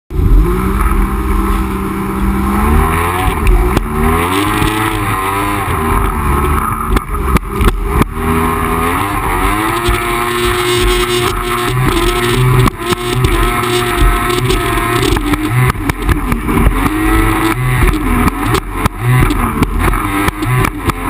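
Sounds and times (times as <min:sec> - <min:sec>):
jet ski engine revving: 0:00.1 - 0:21.0.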